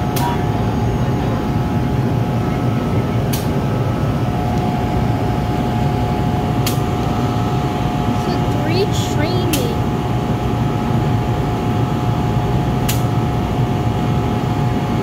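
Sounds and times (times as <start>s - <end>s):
railway line rumble and hum: 0.0s - 15.0s.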